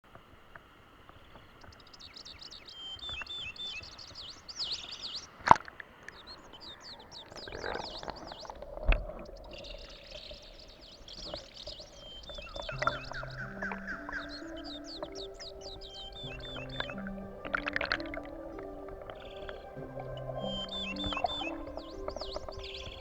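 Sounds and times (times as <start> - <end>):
stream water running: 0.1 - 23.0.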